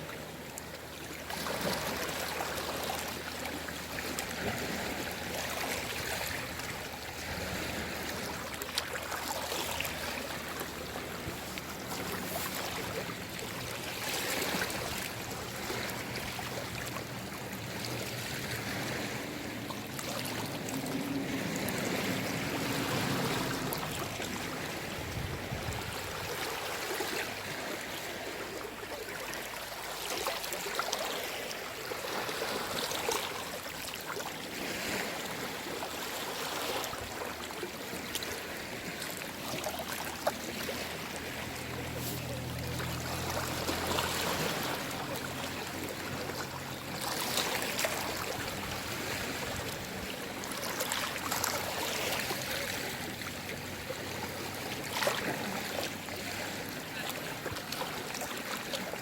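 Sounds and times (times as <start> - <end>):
small waves washing in: 0.0 - 59.0.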